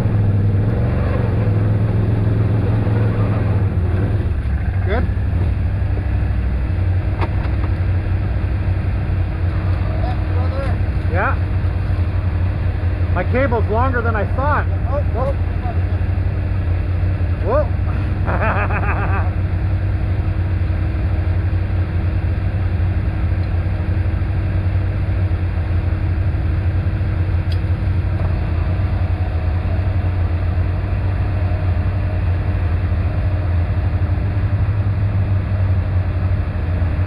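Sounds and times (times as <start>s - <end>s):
atv engine running: 0.0s - 37.0s.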